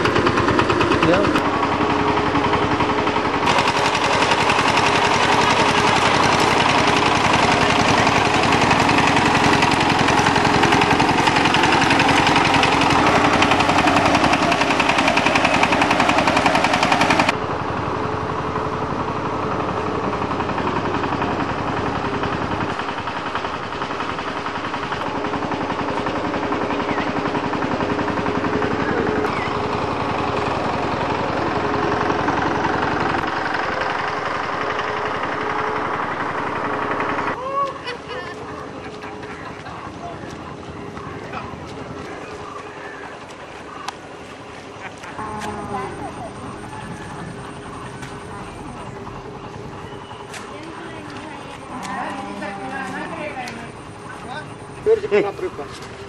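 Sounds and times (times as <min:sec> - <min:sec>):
small engine chugging: 0:00.0 - 0:56.0.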